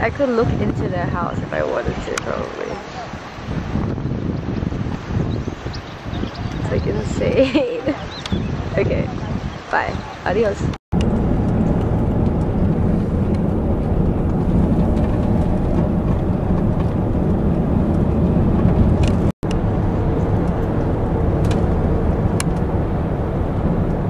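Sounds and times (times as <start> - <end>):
road vehicle rumble: 0.0 - 24.0.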